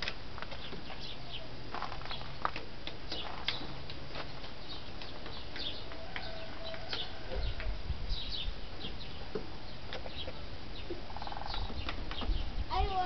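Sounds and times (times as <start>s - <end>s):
birds chirping: 0.4s - 13.0s.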